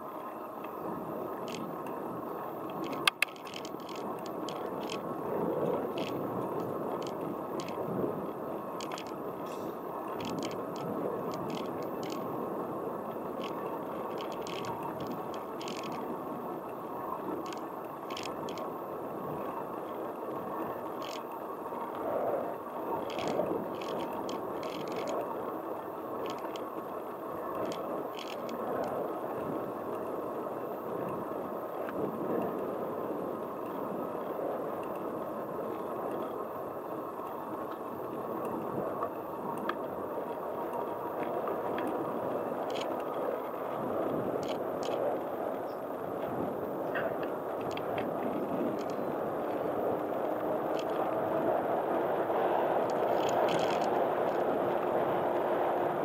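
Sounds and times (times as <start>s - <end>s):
bicycle tyre and wind noise: 0.0s - 56.0s
bike clicks and rattles: 0.0s - 56.0s.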